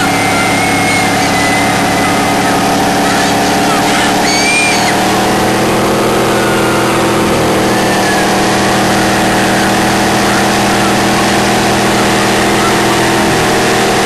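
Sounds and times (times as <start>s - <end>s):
steady rushing noise: 0.0s - 14.0s
truck engine at high revs: 0.0s - 14.0s
tyres spinning in a burnout: 0.0s - 14.0s.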